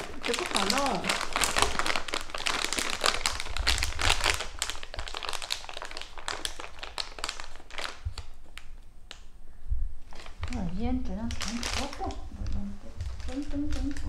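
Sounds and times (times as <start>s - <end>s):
plastic piping bag crinkling: 0.0s - 9.3s, 10.0s - 14.0s.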